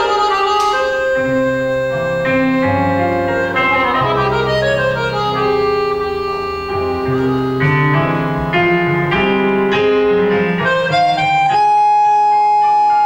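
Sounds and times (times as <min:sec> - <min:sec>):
slow instrumental music: 0:00.0 - 0:13.0.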